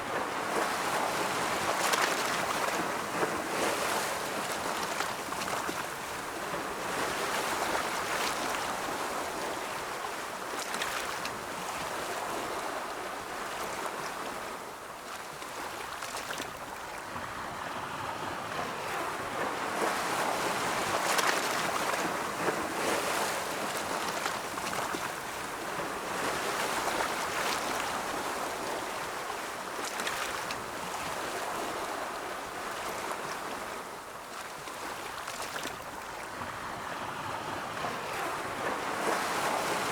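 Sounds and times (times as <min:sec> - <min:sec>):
ocean waves rolling in: 0:00.0 - 0:39.9.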